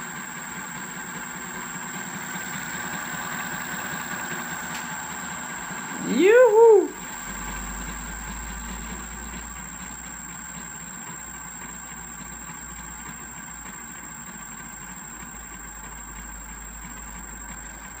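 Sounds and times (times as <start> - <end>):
electric motor hum and whir: 0.7 - 18.0.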